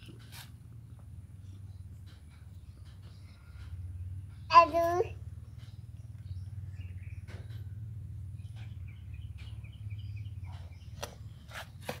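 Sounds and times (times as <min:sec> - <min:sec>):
low steady hum: 0:00.0 - 0:12.0
birds chirping: 0:00.8 - 0:12.0.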